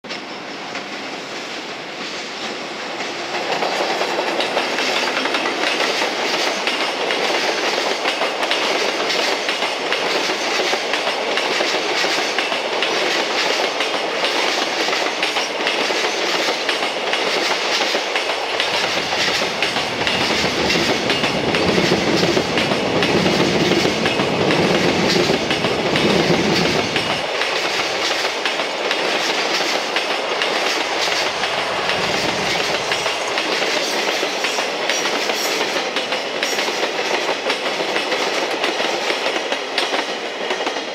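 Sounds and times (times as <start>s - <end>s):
train wheels clattering over rail joints: 0.1s - 40.9s.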